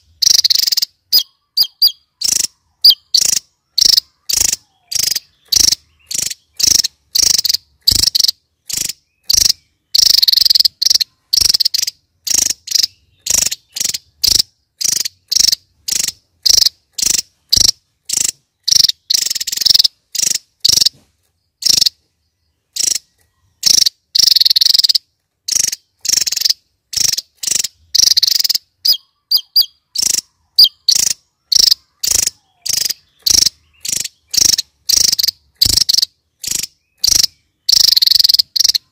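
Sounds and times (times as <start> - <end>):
bird singing high sharp notes: 0.0 - 21.0, 21.6 - 38.9.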